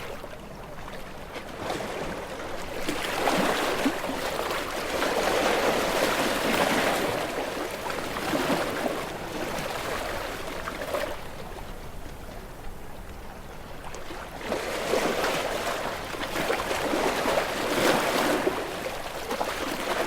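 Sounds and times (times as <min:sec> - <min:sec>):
gentle waves washing on shore: 0:00.0 - 0:20.0.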